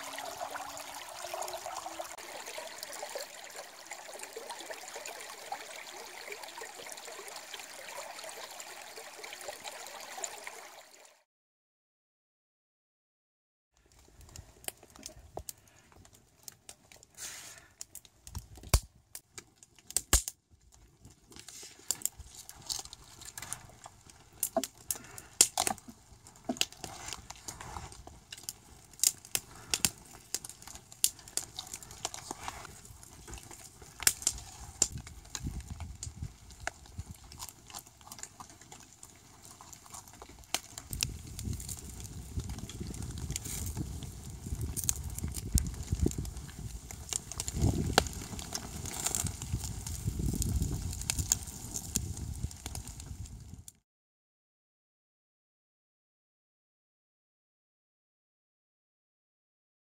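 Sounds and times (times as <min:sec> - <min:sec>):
campfire crackling and popping: 0:00.0 - 0:10.7, 0:13.8 - 0:53.8.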